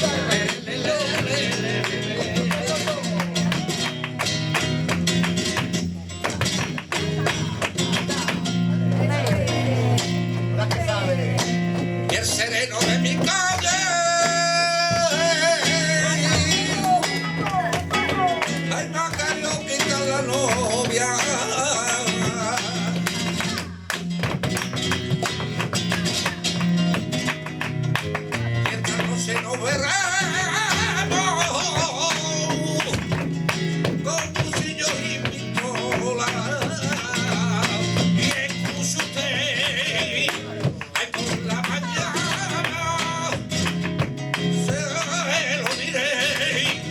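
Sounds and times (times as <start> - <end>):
flamenco guitar: 0.0 - 46.9
person singing flamenco: 0.0 - 46.9.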